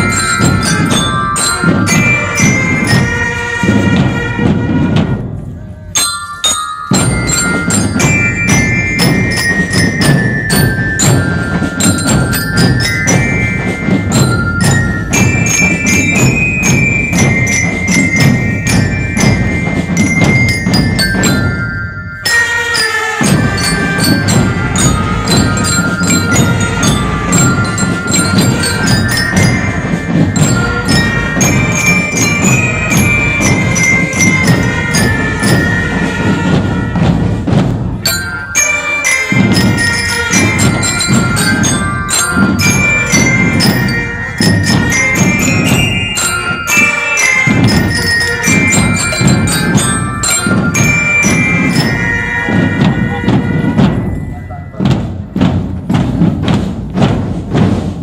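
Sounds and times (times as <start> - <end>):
bell lyre melody: 0.0 - 4.4, 5.8 - 57.1
snare and bass drums beat: 0.0 - 5.6, 6.8 - 58.0.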